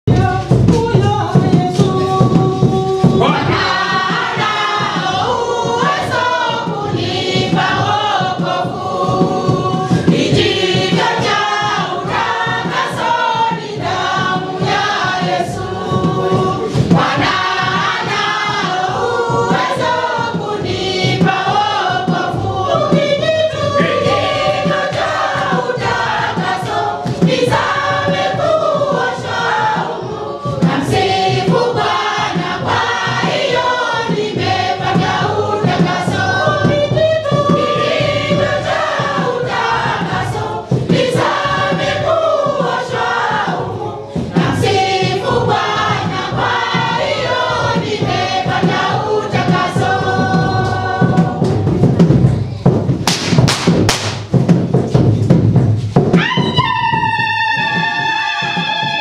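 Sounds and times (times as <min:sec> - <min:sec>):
choir singing gospel song: 0:00.0 - 0:52.5, 0:55.9 - 0:59.0
steady beat: 0:00.1 - 0:59.0.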